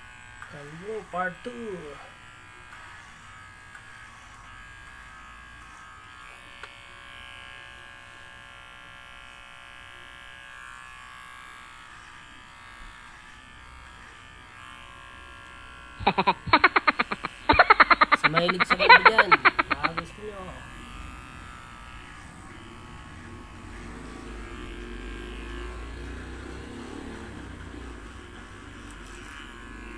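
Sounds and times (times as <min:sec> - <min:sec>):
electric hair clipper buzzing: 0:00.0 - 0:29.9.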